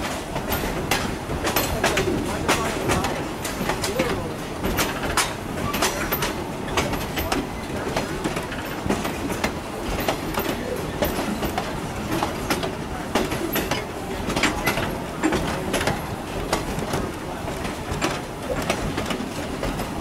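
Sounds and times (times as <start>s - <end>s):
train rumbling: 0.0s - 20.0s
wheels clicking over rail joints: 0.0s - 20.0s.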